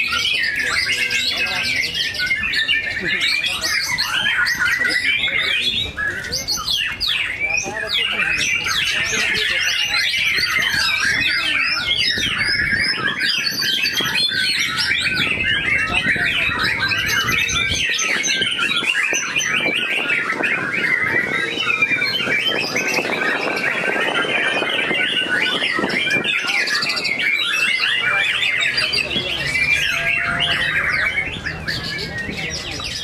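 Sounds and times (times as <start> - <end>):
birds singing whistles and chatter: 0.0 - 33.0.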